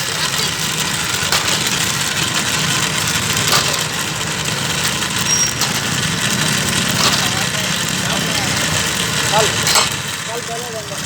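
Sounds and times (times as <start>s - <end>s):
engine-like drone with hiss: 0.0s - 11.0s.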